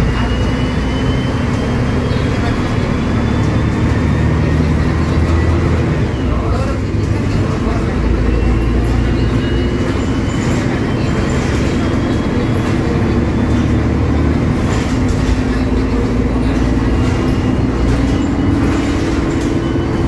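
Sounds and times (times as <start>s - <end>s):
bus diesel engine running: 0.0s - 20.0s
road noise: 0.0s - 20.0s.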